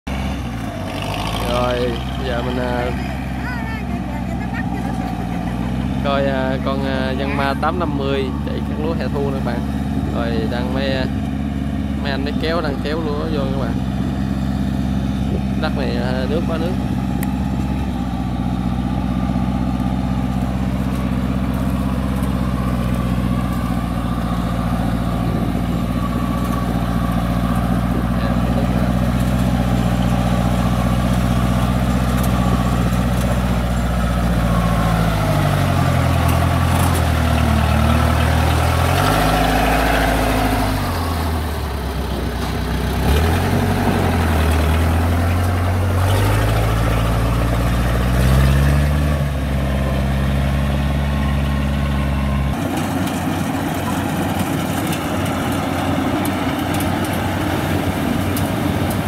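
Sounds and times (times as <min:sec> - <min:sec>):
tracked vehicle engine: 0:00.0 - 0:59.0.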